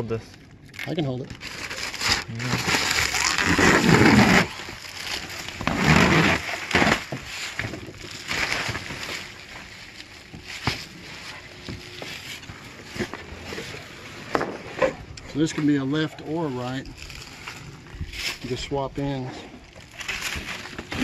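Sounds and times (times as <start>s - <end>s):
plastic film rustling and crinkling: 0.8s - 14.7s, 15.3s - 21.0s.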